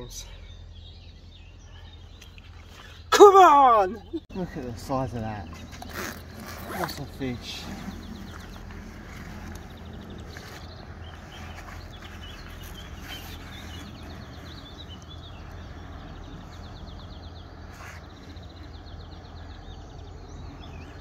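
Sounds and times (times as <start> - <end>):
small birds chirping: 0.0 - 21.0
steady low rumble: 4.1 - 21.0.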